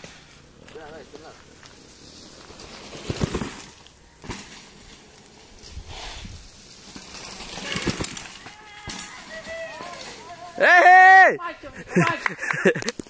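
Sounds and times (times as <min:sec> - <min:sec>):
bike tyres on dirt: 0:00.0 - 0:13.0.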